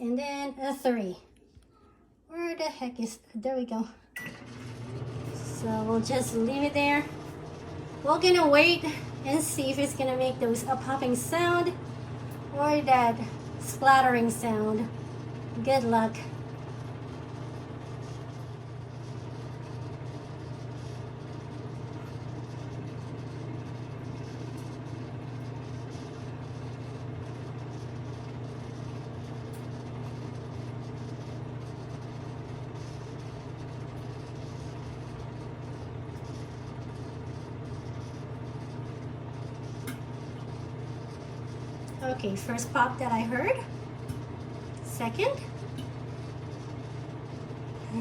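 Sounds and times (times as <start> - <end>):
microwave oven humming: 0.0 - 48.0.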